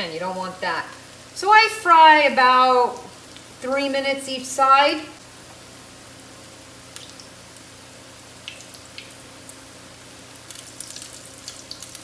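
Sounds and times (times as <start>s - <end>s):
latkes sizzling in oil: 0.2s - 12.0s.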